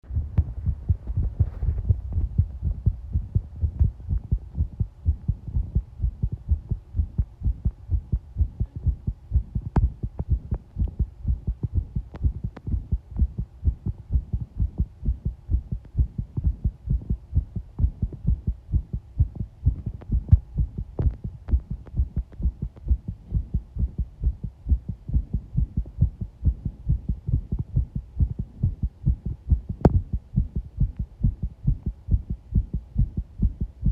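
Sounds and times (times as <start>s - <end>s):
constant low hum: 0.0s - 33.9s
human heartbeat: 0.0s - 33.9s.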